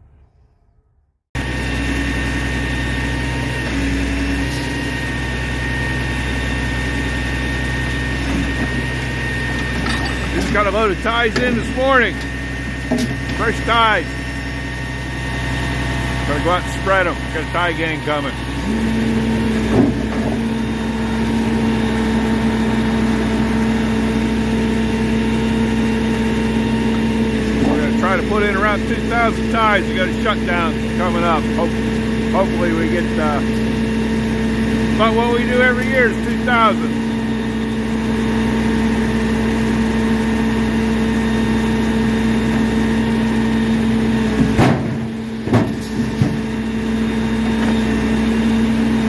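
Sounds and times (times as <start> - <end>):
heavy truck engine running: 0.0 - 49.0.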